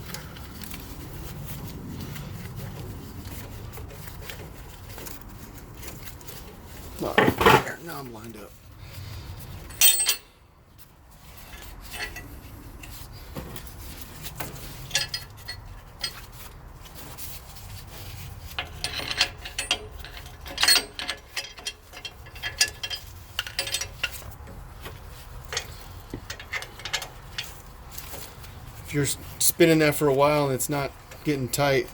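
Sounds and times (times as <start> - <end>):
lug nuts scraping and clinking: 3.3 - 8.6, 9.5 - 10.4, 11.2 - 31.9.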